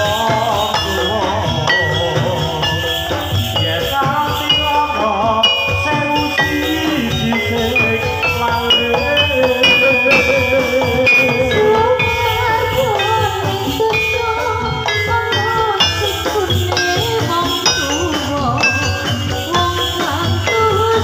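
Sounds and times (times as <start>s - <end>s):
metal keyed instruments ringing: 0.0s - 21.0s
steady drumming: 0.0s - 21.0s
wavering melody line: 0.0s - 21.0s.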